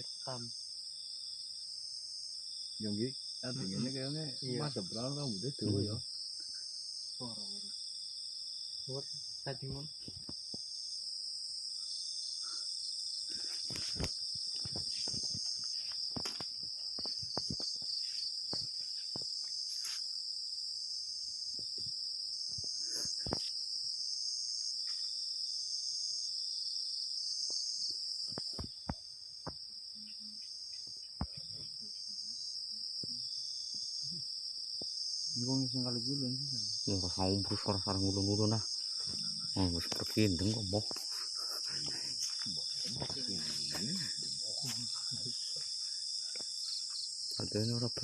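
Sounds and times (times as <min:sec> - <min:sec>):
insects chirring drone: 0:00.0 - 0:48.0
pulsing insect call: 0:00.0 - 0:48.0.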